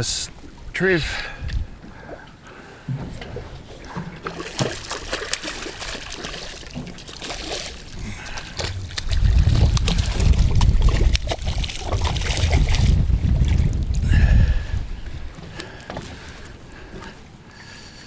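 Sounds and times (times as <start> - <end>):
wind buffeting microphone: 0.0 - 17.4
water sloshing against boat hull: 0.0 - 18.0.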